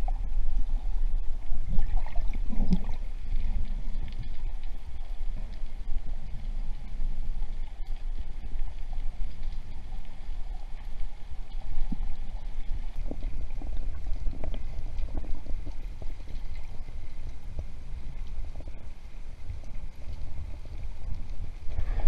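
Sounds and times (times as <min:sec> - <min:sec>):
faint ticks and clicks: 0:00.0 - 0:22.0
underwater current rumble: 0:00.0 - 0:22.0.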